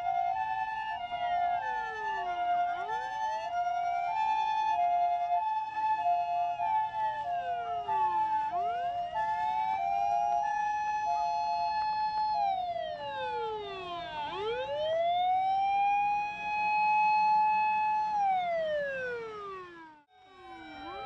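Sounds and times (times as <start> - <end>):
two-tone siren: 0.0 - 21.0
wailing siren: 0.0 - 21.0.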